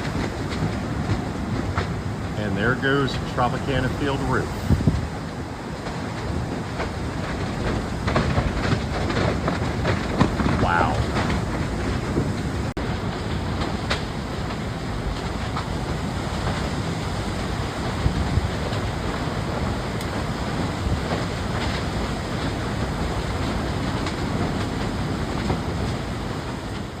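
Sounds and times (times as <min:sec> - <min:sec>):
strong wind roaring on microphone: 0:00.0 - 0:27.0.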